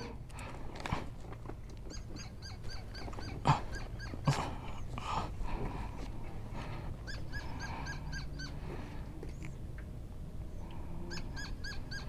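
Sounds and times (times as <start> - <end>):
steady low rumble: 0.0 - 11.3.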